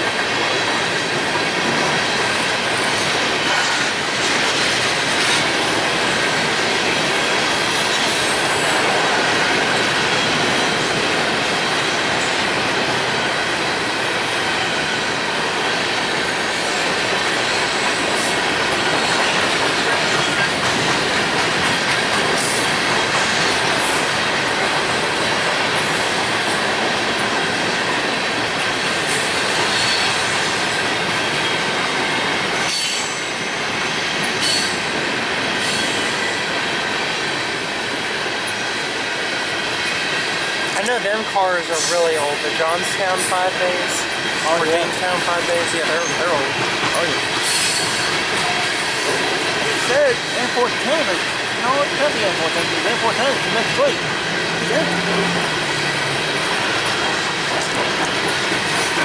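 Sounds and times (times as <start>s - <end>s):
steel wheels rushing on rail: 0.0s - 59.0s.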